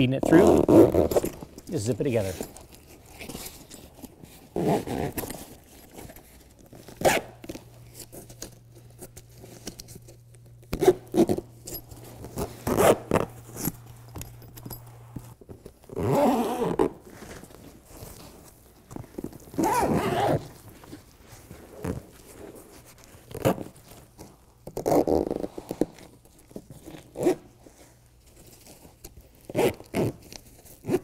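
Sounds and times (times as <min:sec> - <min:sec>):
zipper pulled: 0:00.2 - 0:27.8, 0:28.4 - 0:31.0.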